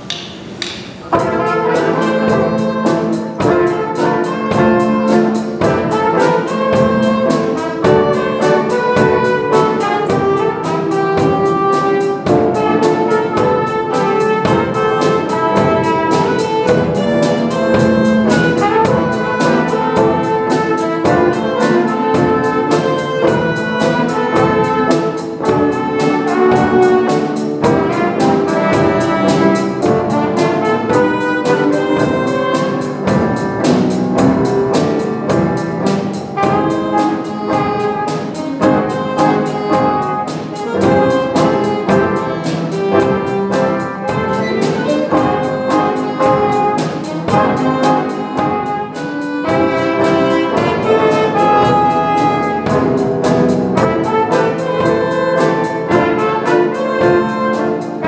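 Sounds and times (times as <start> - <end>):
brass-led jazz instrumental: 1.0 - 58.0.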